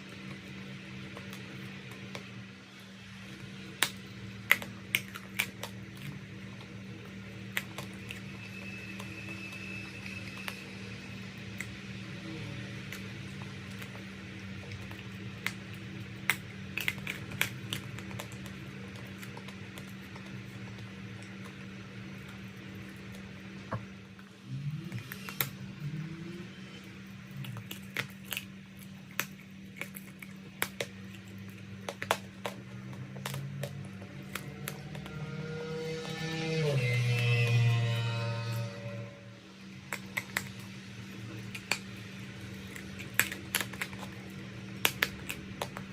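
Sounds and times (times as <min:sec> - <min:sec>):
low hum: 0:00.0 - 0:45.9.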